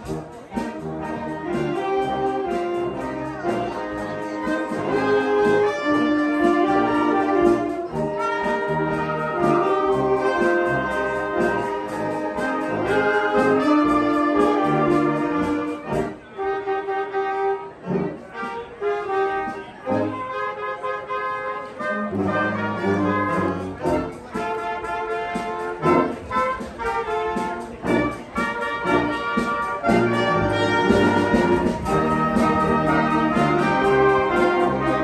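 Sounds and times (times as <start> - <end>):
concert band playing: 0.0 - 35.0.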